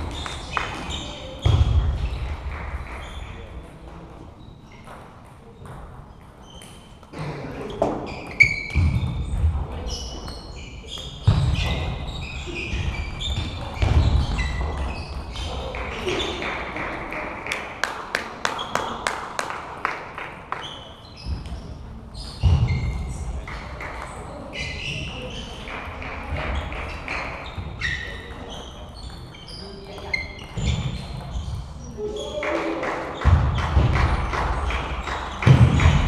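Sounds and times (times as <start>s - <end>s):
voices in a hall: 0.0s - 36.0s.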